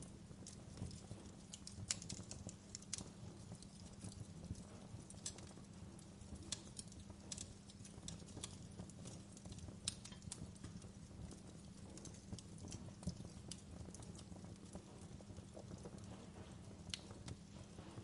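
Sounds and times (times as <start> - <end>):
low rumble of burning logs: 0.0 - 18.0
wood fire crackling: 0.0 - 18.0.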